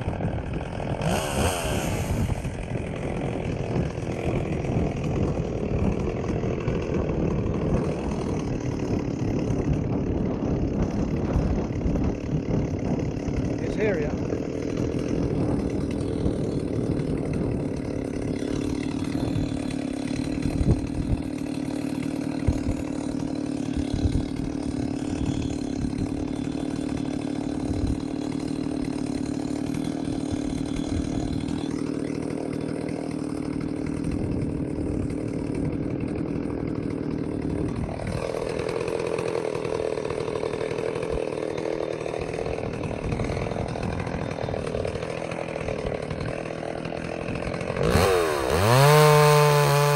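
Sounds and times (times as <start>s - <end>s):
chainsaw cutting: 0.0s - 49.9s.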